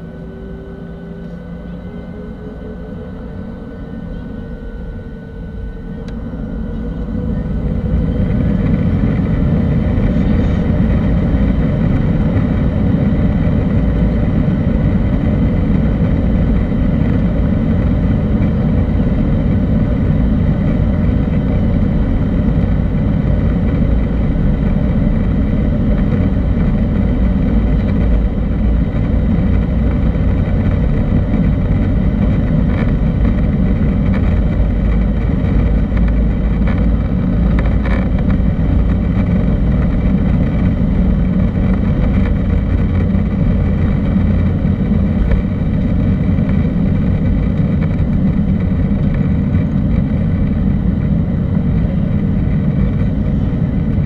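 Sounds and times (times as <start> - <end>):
low rumble of takeoff roll: 0.0 - 54.0.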